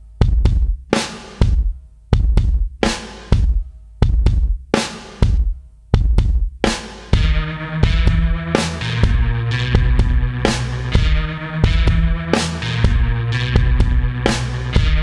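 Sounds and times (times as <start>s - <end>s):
bass drum kicks: 0.2s - 15.0s.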